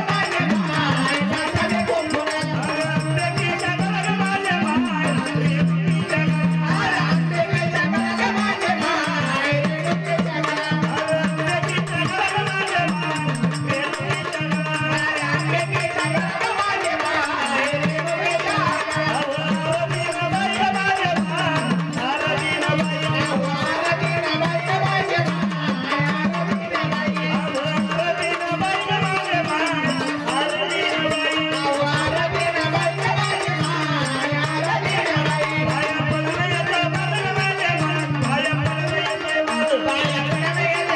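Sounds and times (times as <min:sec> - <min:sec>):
hand drum beat: 0:00.0 - 0:40.9.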